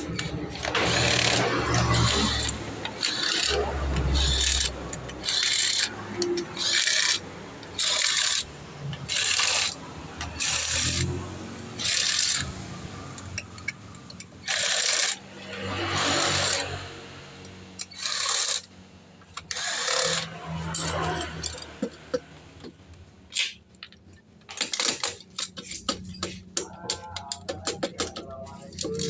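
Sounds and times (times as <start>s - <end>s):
metallic clicks of tools: 0.0s - 29.0s.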